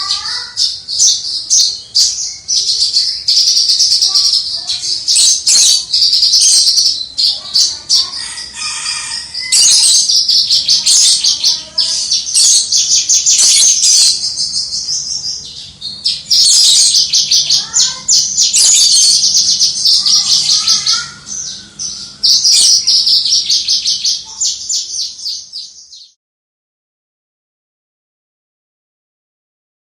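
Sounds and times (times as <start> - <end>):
bird singing high-pitched song: 0.0 - 26.2.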